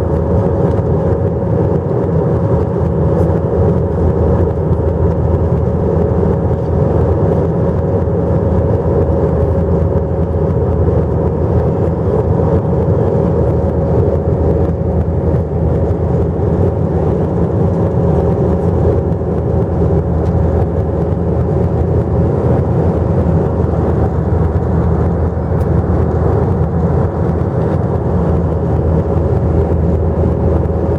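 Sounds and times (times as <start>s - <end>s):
jet cabin engine roar: 0.0s - 30.9s.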